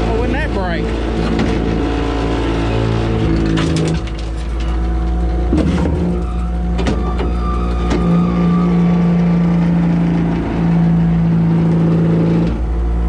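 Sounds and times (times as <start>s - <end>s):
metal knocks and clanks: 0.0s - 12.0s
truck engine running: 0.0s - 13.0s.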